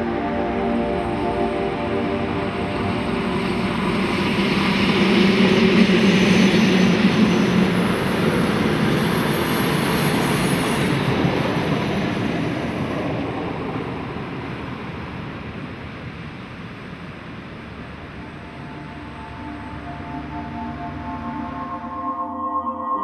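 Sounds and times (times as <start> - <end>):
electric locomotive motors humming: 0.0 - 22.4.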